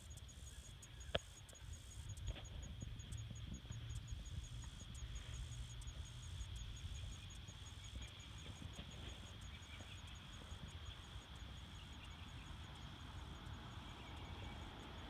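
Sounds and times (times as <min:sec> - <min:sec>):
insect chirping: 0:00.0 - 0:15.0
insect trill: 0:00.0 - 0:15.0.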